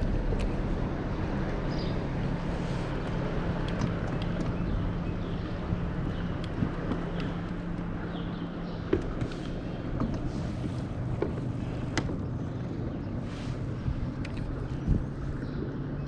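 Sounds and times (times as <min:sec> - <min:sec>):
steady low hum: 0:00.0 - 0:16.0
water lapping against boat: 0:00.0 - 0:16.0
wind on microphone: 0:00.0 - 0:16.0.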